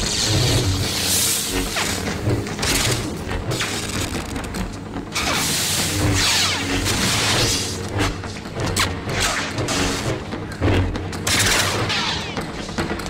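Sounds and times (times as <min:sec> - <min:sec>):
background music: 0:00.0 - 0:13.0
lightsaber hum: 0:00.0 - 0:13.0.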